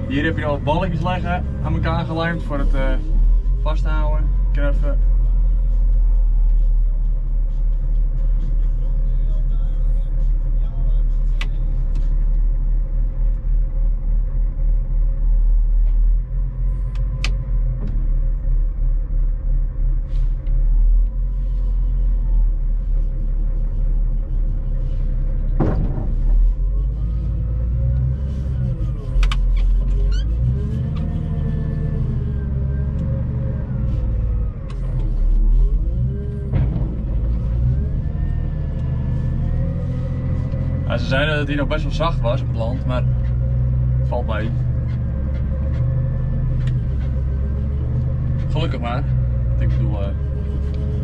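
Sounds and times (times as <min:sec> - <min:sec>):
diesel engine revving: 0:00.0 - 0:51.0.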